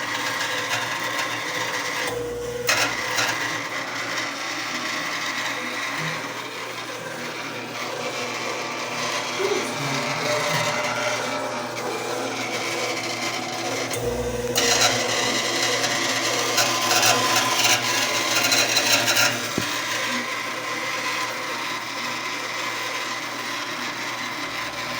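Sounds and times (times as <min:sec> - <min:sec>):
washing machine running: 0:00.0 - 0:24.9.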